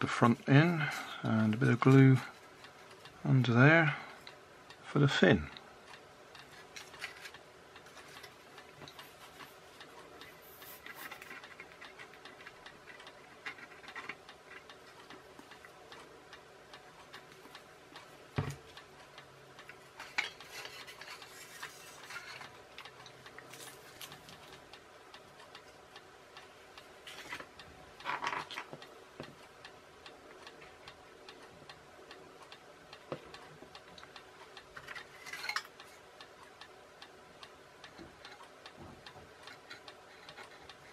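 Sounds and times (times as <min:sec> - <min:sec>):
clock-like ticking: 0:00.1 - 0:40.9.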